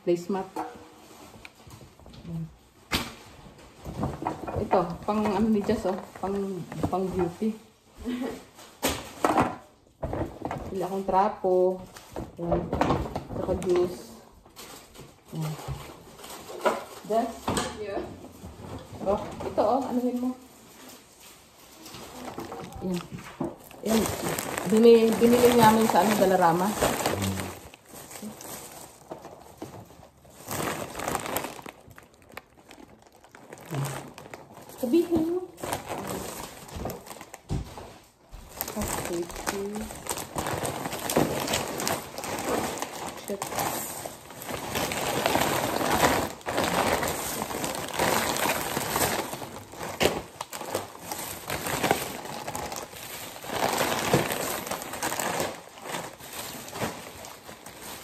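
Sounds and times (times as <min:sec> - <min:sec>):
plastic bag rustling: 0:00.0 - 0:58.0
foil snack bags crinkling: 0:00.1 - 0:58.0.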